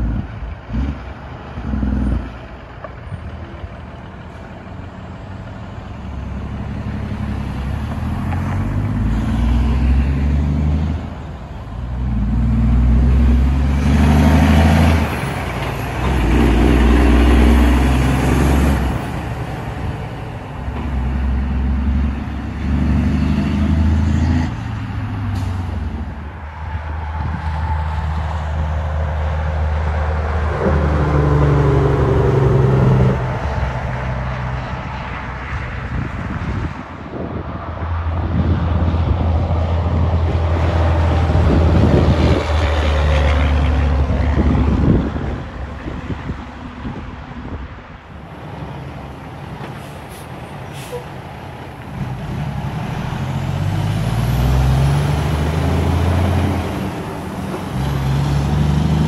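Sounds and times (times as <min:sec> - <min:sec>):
diesel truck accelerating through gears: 0:00.0 - 0:59.0.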